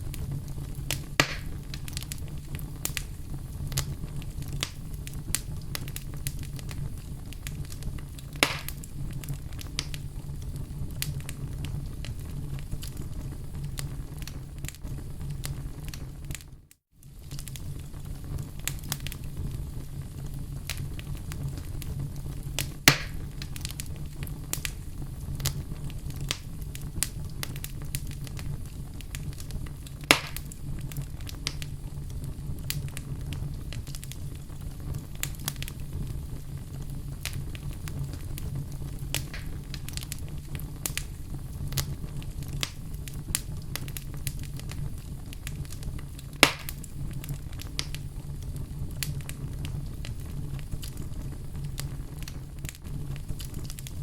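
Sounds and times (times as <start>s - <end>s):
fire crackling: 0.0s - 54.0s
loud pops from fire: 0.0s - 54.0s.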